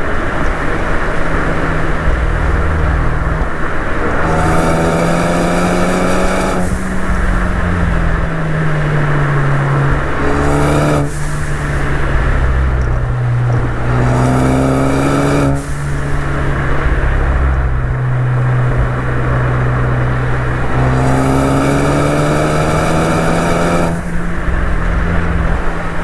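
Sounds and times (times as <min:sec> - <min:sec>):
car engine pulling hard: 0:00.0 - 0:26.0
wind and road noise: 0:00.0 - 0:26.0.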